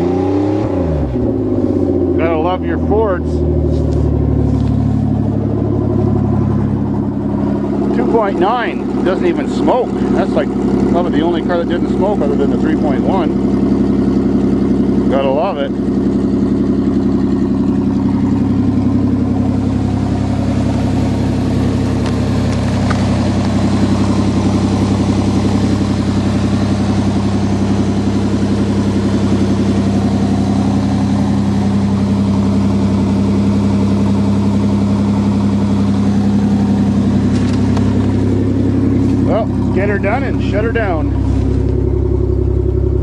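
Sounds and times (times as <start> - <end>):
truck engine idling: 1.0 - 43.0.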